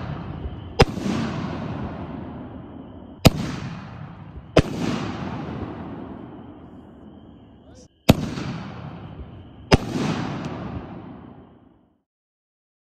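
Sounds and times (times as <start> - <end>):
rolling echo: 0.0 - 11.9.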